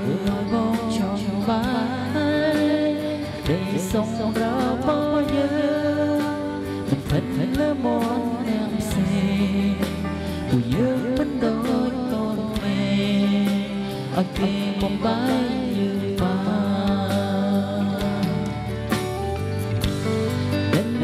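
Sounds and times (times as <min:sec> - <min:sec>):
person singing into a microphone: 0:00.0 - 0:19.6, 0:20.2 - 0:21.0
backing music track: 0:00.0 - 0:21.0.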